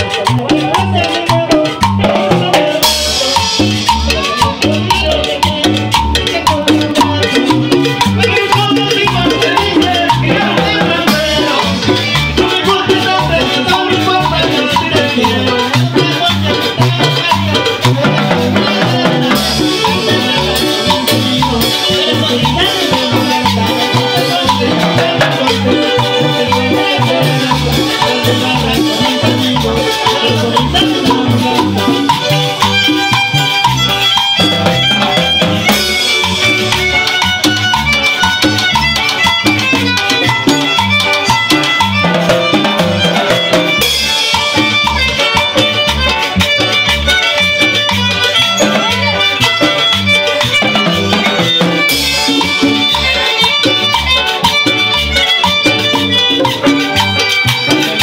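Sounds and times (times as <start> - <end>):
congas: 0.0 - 58.0
electric bass: 0.0 - 58.0
salsa band playing: 0.0 - 58.0.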